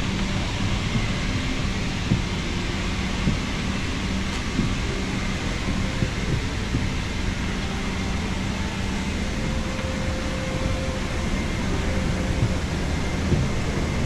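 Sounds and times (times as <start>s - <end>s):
airliner cabin rumble: 0.0s - 14.0s
faint steady tones: 0.0s - 14.0s.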